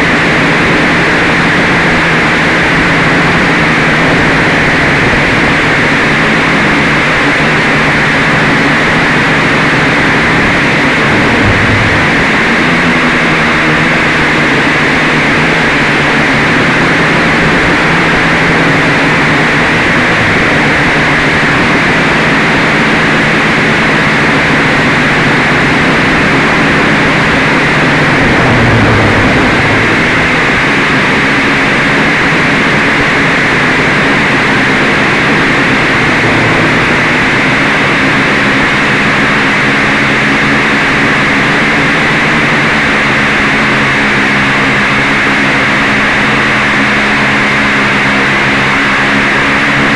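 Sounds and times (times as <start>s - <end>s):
quadcopter motors buzzing: 0.0s - 49.9s.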